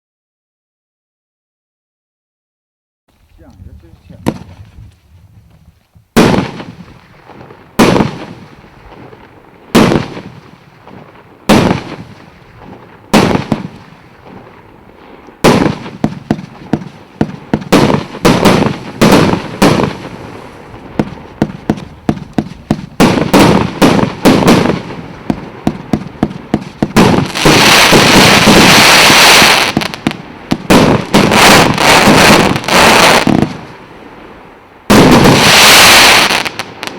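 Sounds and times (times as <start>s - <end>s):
firework shots: 3.4s - 5.0s, 6.1s - 36.9s.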